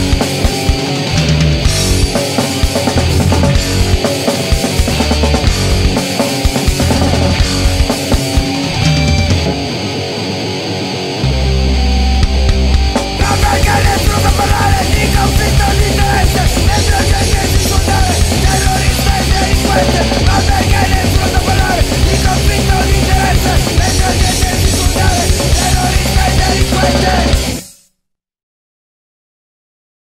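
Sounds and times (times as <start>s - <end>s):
pounding drum kit: 0.0s - 9.8s, 11.8s - 27.8s
amplified electric guitar: 0.0s - 27.8s.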